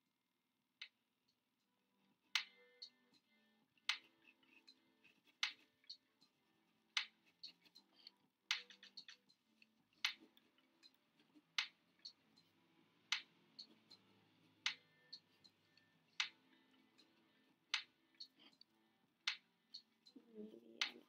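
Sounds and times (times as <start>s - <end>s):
faint clicks: 2.2s - 21.0s
sharp ticks: 2.3s - 21.0s.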